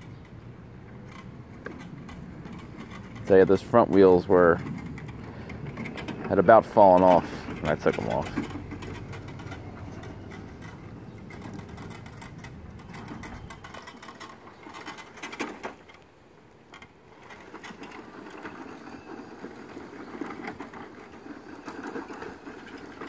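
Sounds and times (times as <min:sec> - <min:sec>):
caster wheels rattling: 0:00.0 - 0:16.0, 0:16.6 - 0:23.0.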